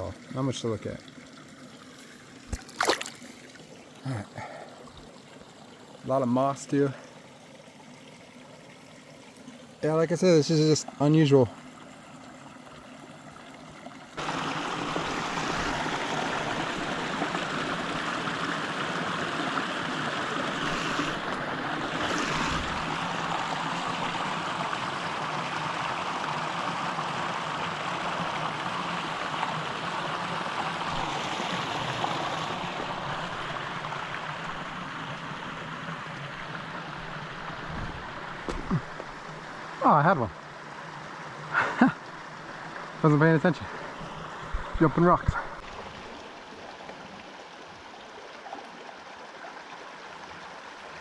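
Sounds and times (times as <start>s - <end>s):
creek water rushing: 0.0s - 51.0s.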